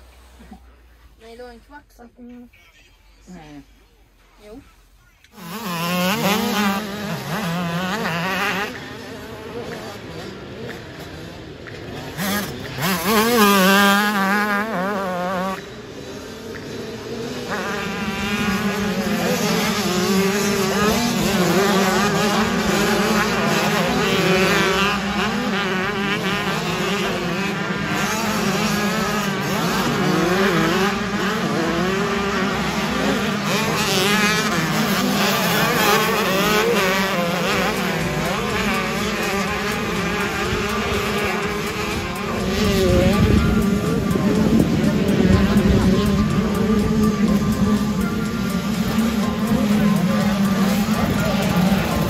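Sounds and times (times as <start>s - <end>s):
motocross bike engines revving: 0.0s - 2.6s, 3.2s - 52.0s
low drone: 5.6s - 52.0s.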